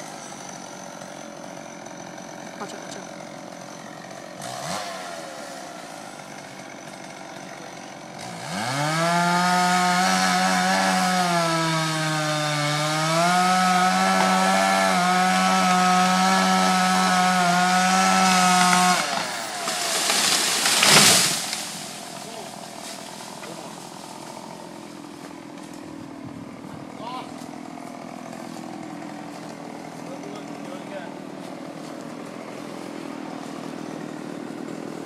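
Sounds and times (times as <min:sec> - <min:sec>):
chainsaw revving and cutting: 0:00.0 - 0:35.0.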